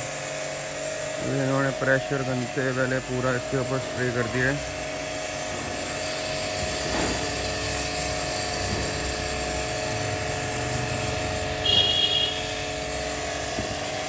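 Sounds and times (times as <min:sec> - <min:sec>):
pressure washer pump humming: 0:00.0 - 0:14.0.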